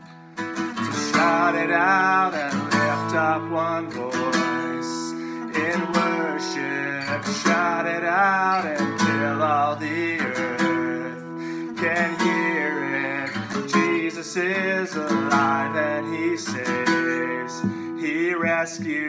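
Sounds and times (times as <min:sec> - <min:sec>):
acoustic guitar strumming: 0:00.0 - 0:19.0
man singing: 0:00.5 - 0:19.0.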